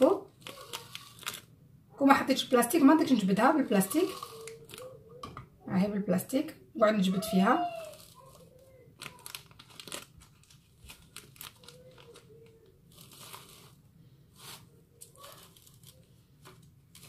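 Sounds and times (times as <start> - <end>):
plastic sheet crinkling: 0.0 - 1.5, 2.4 - 5.0, 7.2 - 17.0.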